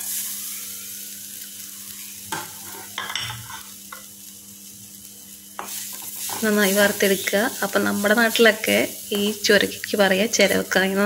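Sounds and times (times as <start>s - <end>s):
steady hiss of roasting: 0.0s - 11.0s.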